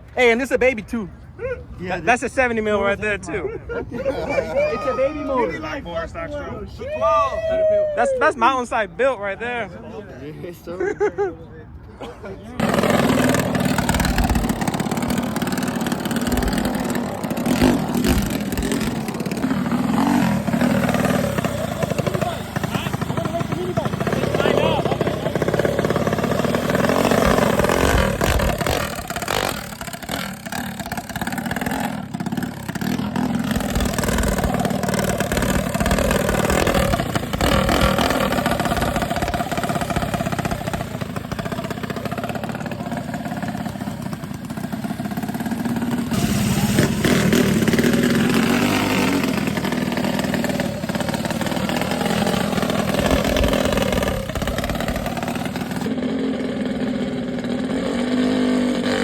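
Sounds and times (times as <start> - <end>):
small motorcycle engines revving: 0.0 - 59.0.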